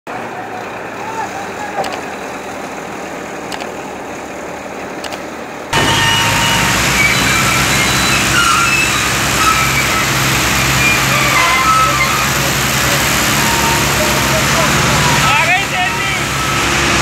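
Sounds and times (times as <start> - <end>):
diesel engine running: 0.1 - 17.0.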